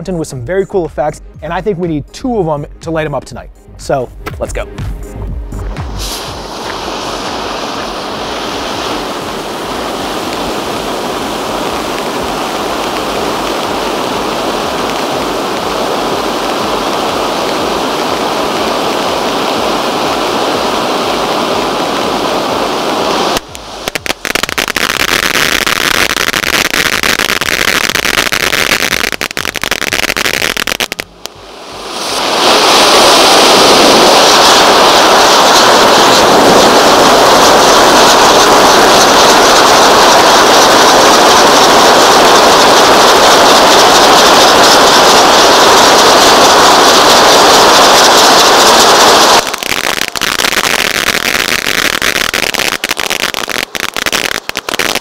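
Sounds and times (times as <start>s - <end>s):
firework fountain hissing: 5.8s - 55.0s.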